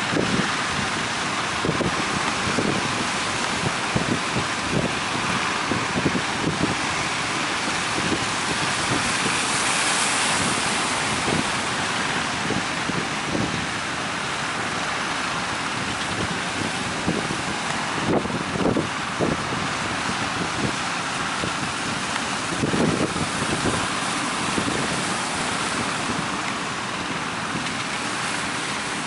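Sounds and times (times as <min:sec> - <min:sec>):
sea waves rushing: 0:00.0 - 0:29.0
wind buffeting microphone: 0:00.0 - 0:29.0.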